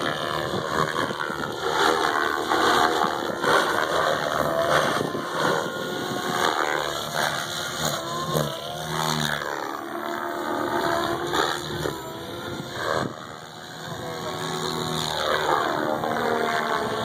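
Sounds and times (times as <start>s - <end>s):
rc helicopter rotor whine: 0.0s - 17.0s.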